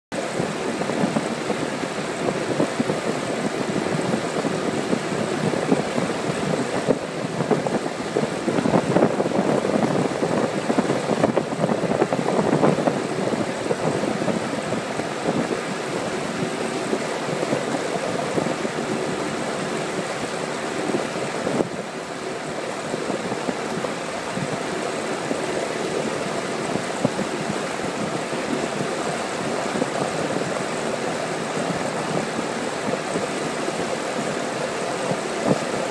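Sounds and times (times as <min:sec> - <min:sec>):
outboard motor running: 0:00.1 - 0:35.9
water rushing: 0:00.1 - 0:35.9
wind: 0:00.1 - 0:35.9.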